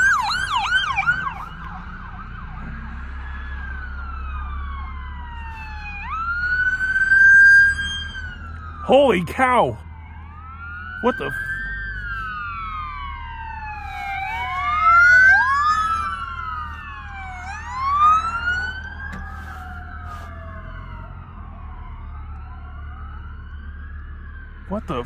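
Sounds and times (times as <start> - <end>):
police sirens wailing: 0.0 - 25.0.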